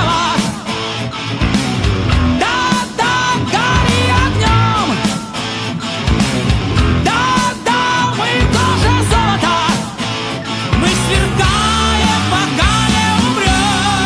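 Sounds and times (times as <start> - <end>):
heavy metal band playing: 0.0 - 14.0
lead guitar melody: 0.0 - 14.0.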